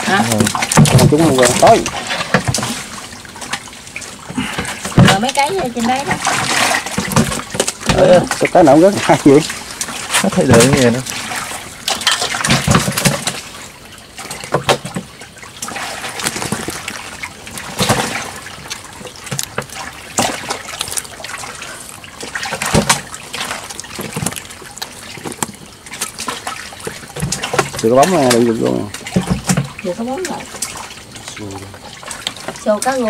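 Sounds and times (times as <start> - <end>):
sharp splashes and knocks: 0.0 - 33.0
water splashing and trickling: 0.0 - 33.0.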